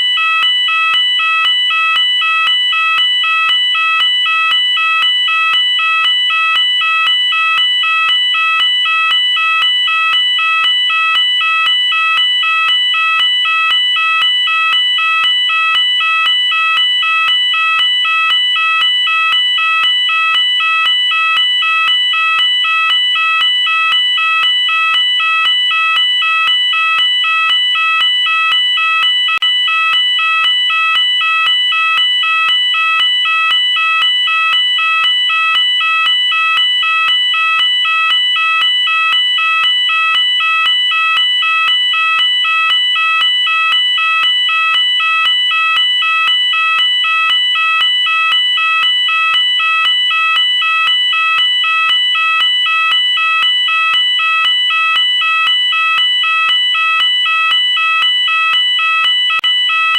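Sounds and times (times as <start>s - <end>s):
electronic fire alarm sounder: 0.0s - 59.9s.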